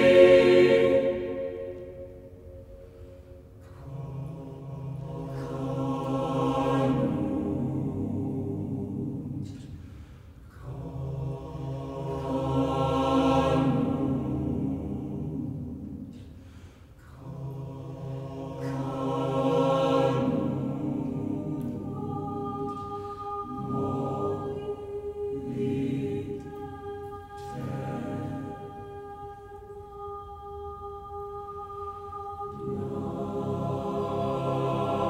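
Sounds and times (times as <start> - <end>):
a cappella choir singing: 0.0 - 35.0.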